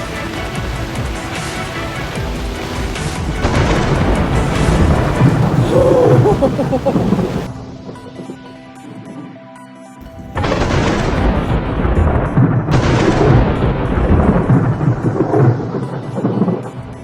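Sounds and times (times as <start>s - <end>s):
deep rolling thunder rumble: 0.0s - 8.1s, 10.0s - 17.0s
thunder crack: 0.0s - 8.2s, 10.0s - 17.0s.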